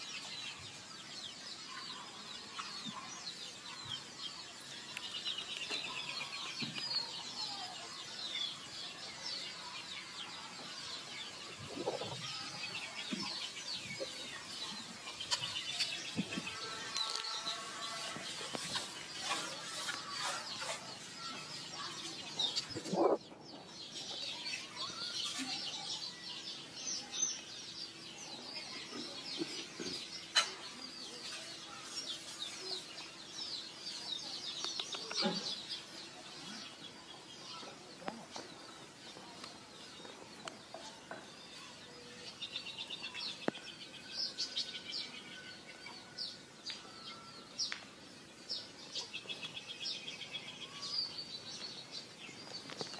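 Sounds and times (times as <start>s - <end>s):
birds chirping: 0.0s - 52.9s.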